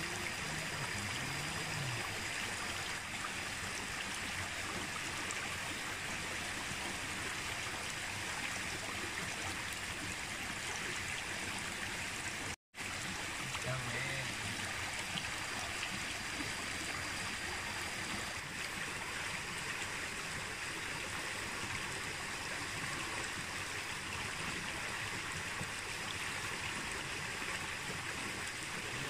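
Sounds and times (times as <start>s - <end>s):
creek running over rocks: 0.0s - 29.0s.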